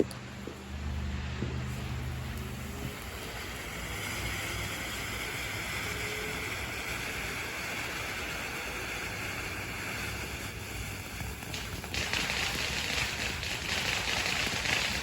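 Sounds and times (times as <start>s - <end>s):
firework fountain hissing: 1.6s - 15.0s.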